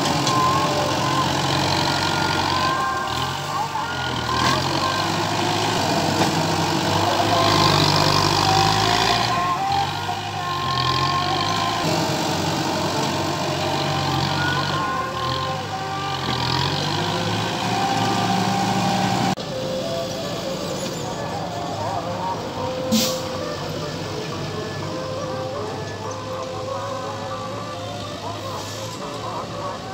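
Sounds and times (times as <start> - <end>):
background music: 0.0 - 29.9
tractor engine under load: 0.0 - 29.9.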